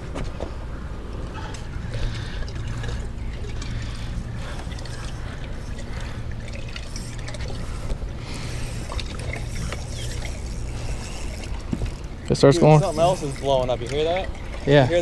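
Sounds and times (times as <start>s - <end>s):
steady low hum: 0.0s - 15.0s
water trickling and splashing: 1.3s - 15.0s.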